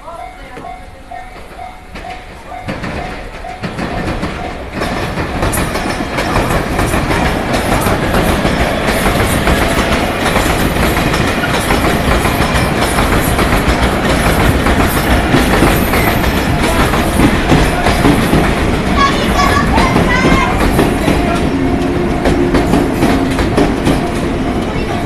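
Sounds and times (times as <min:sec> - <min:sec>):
electric trains passing: 0:00.0 - 0:25.0.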